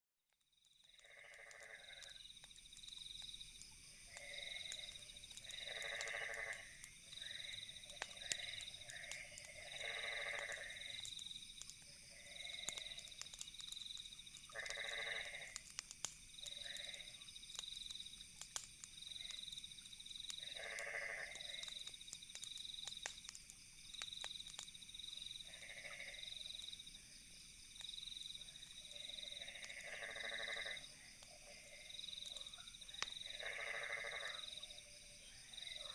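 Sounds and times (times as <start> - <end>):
campfire crackling: 0.3 - 35.9
cricket chirping: 0.4 - 35.9
frogs croaking: 0.6 - 35.9.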